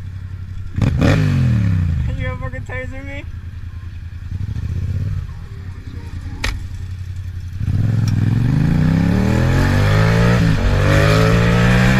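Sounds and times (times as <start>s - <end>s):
vehicle engine accelerating: 0.0s - 2.5s, 3.8s - 11.9s.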